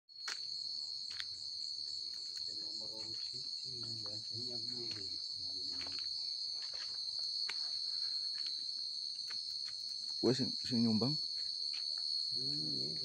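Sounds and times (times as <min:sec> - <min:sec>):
crickets trilling: 0:00.2 - 0:13.0.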